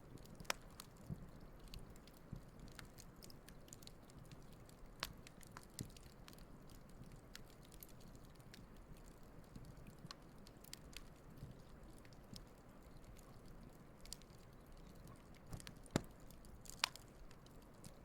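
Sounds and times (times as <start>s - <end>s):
campfire crackling and popping: 0.0s - 18.0s
low steady fire hiss: 0.0s - 18.0s.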